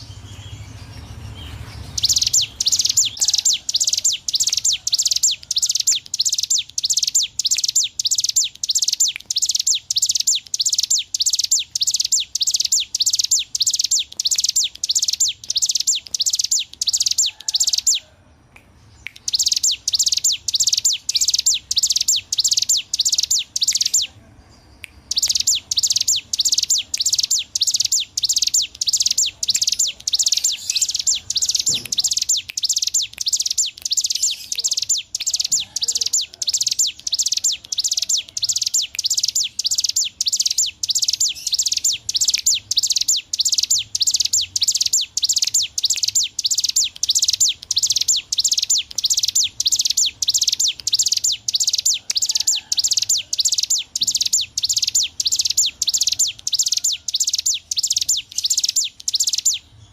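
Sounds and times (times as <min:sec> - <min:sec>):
bird singing rapid high notes: 0:00.0 - 0:18.1, 0:18.9 - 0:24.1, 0:24.8 - 0:59.9.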